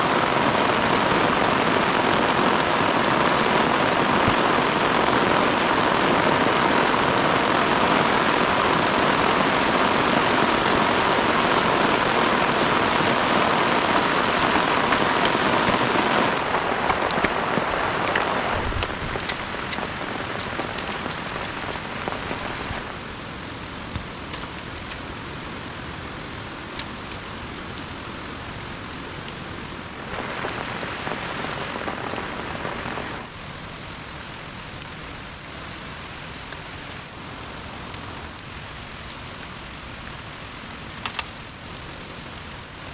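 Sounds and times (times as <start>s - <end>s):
heavy rain pattering: 0.0s - 42.9s.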